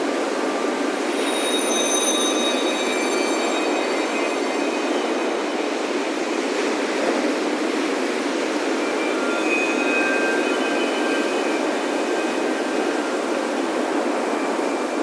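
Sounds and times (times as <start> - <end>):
ocean surf rushing: 0.0 - 15.0
wind chimes ringing: 0.9 - 6.5, 8.0 - 15.0.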